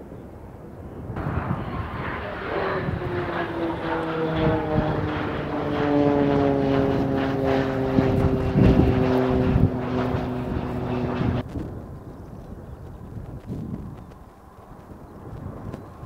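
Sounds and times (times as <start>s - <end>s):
turboprop plane droning overhead: 0.0s - 16.0s.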